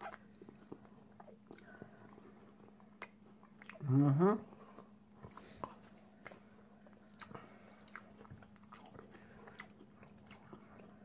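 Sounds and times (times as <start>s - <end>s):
person chewing crunchily: 0.0s - 4.0s, 4.6s - 11.0s
low steady hum: 0.0s - 11.0s.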